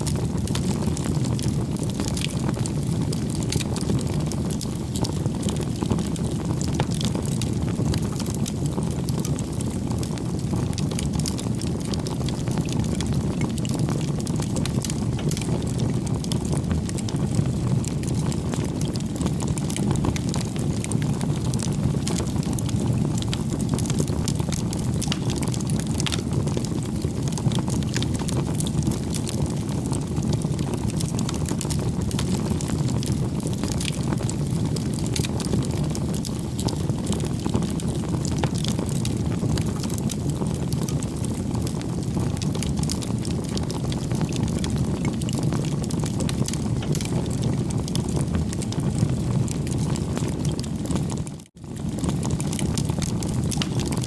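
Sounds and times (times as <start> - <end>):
burning wood crackling and popping: 0.0 - 54.0
low rumble of flames: 0.0 - 54.0.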